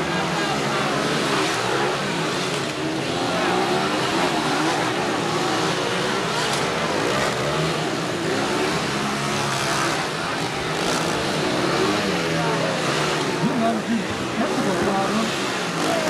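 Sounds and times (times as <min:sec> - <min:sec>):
crowd chatter: 0:00.0 - 0:16.0
dirt bike engines revving: 0:00.0 - 0:16.0.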